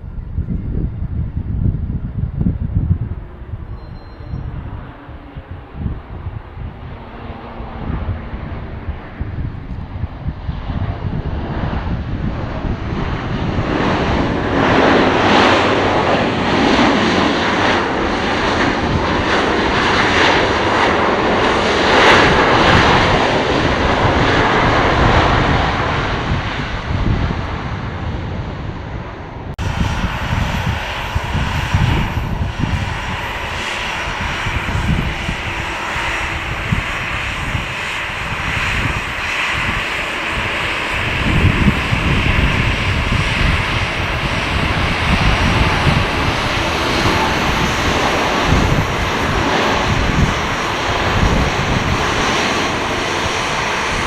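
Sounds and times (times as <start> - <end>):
airliner engines roaring: 0.0 - 54.0
low rumbling: 0.0 - 54.0.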